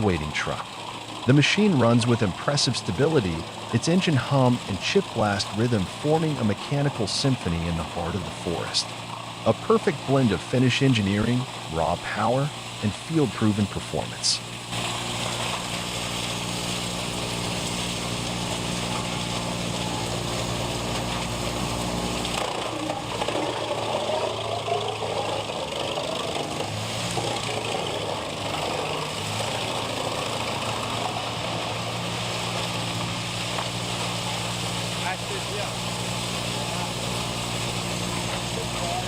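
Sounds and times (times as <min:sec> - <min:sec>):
wood chipper engine running: 0:00.0 - 0:39.0.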